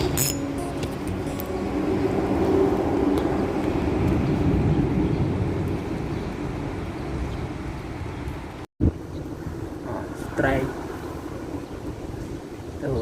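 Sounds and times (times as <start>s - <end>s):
traffic rumble overhead: 0.0s - 13.0s.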